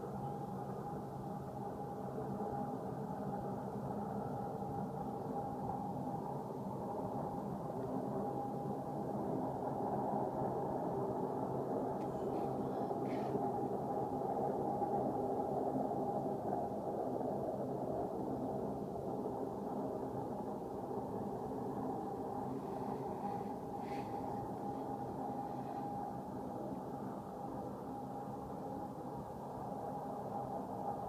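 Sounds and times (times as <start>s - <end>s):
low roaring drone: 0.0s - 31.0s.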